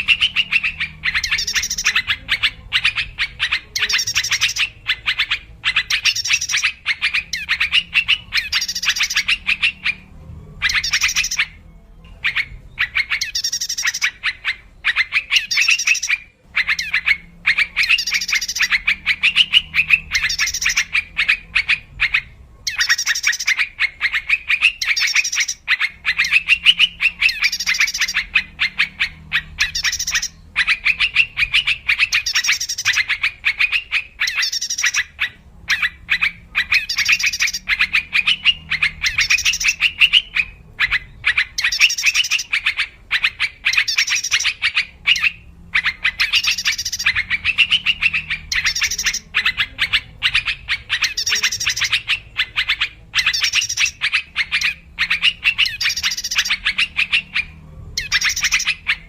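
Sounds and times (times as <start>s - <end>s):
birds chattering and calling: 0.0s - 59.0s.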